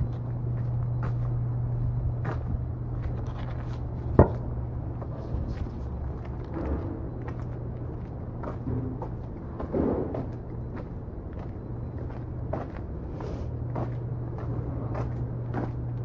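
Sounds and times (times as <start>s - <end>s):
footsteps on snowy sidewalk: 0.0s - 4.2s, 5.0s - 16.0s
street traffic hum: 0.0s - 16.0s.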